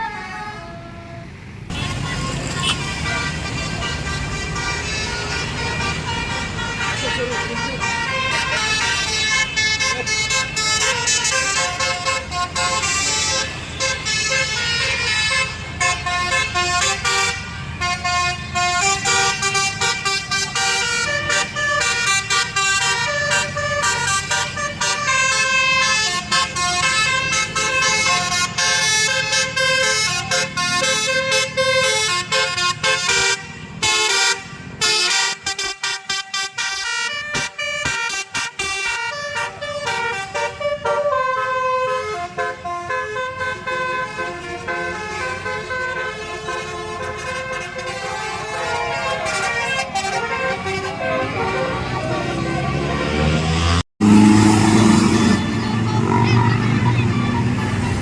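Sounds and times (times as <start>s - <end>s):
bus engine rumble: 0.0s - 58.0s
musical air horn tune: 0.3s - 52.9s.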